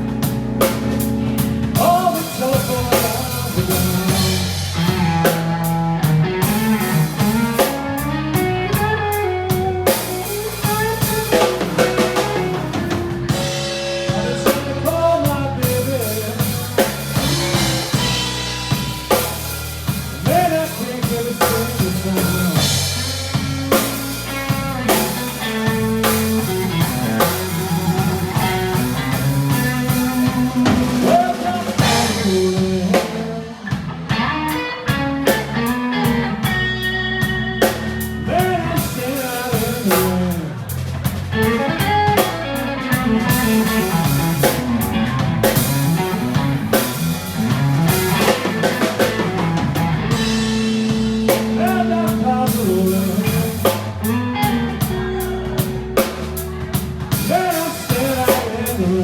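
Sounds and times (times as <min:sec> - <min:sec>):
drum kit: 0:00.0 - 0:59.0
electric guitar lead: 0:00.0 - 0:59.0.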